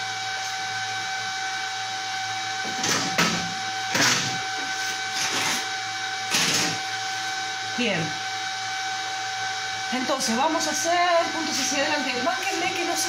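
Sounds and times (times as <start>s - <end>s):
welding machine hum and whine: 0.0s - 13.0s.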